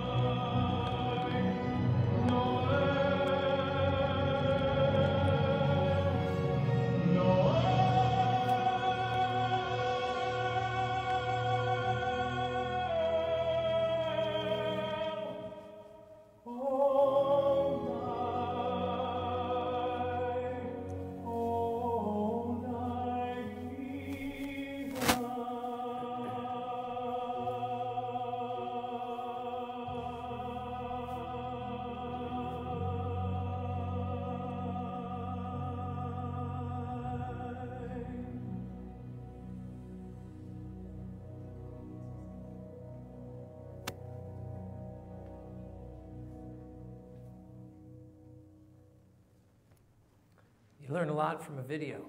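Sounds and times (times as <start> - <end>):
orchestral film music with choir: 0.0 - 49.1.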